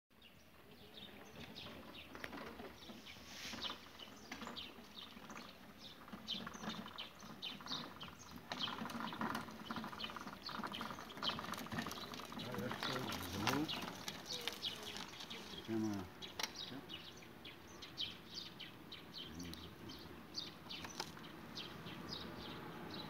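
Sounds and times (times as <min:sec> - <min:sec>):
small birds chirping: 0:00.1 - 0:23.0.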